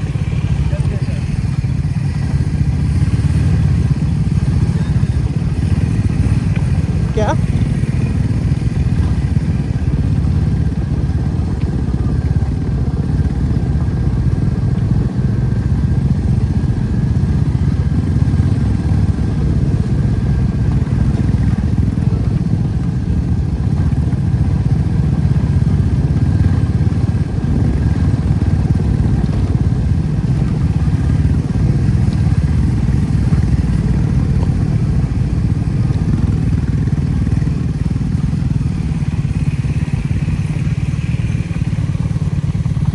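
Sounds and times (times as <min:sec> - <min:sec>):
motorcycle engine rumble: 0:00.0 - 0:42.9
wind noise: 0:00.0 - 0:42.9.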